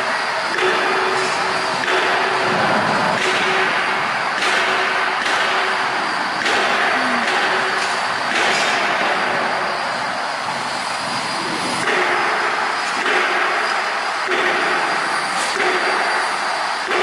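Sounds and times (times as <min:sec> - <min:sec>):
coil-winding machinery rushing: 0:00.0 - 0:17.0.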